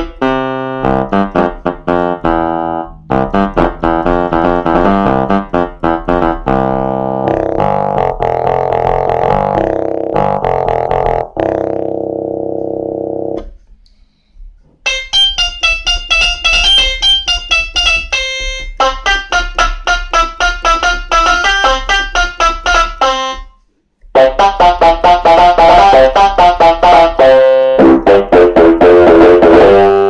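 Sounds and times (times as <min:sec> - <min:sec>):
fast keyboard melody: 0:00.0 - 0:13.5, 0:14.9 - 0:23.6, 0:24.2 - 0:30.0
held keyboard chord: 0:00.0 - 0:13.6, 0:14.8 - 0:30.0.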